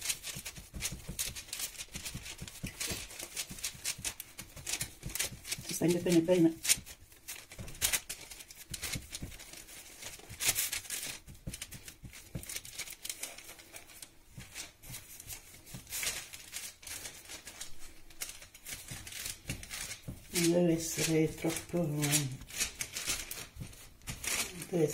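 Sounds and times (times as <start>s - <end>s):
baking paper rustling and crinkling: 0.0s - 24.9s.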